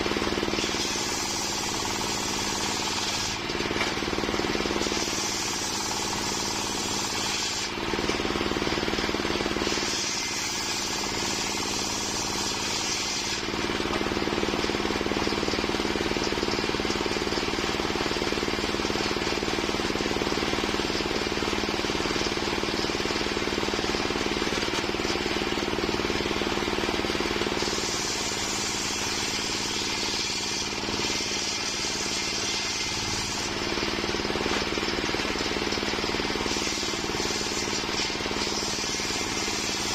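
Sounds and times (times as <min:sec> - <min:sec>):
saw cutting wood hiss: 0:00.0 - 0:14.5, 0:18.1 - 0:39.9
sawmill machine hum: 0:00.0 - 0:39.9.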